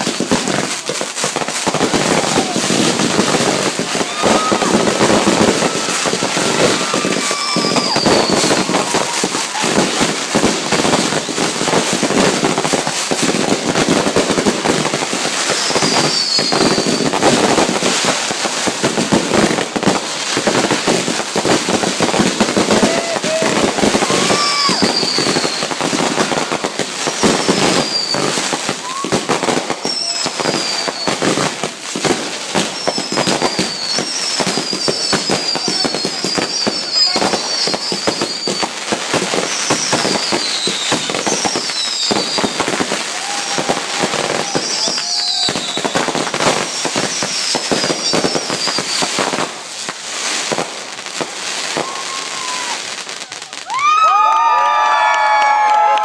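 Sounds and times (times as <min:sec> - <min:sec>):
fireworks whistles falling in pitch: 0:00.0 - 0:49.5, 0:50.1 - 0:56.0
fireworks bangs and crackling: 0:00.0 - 0:56.0.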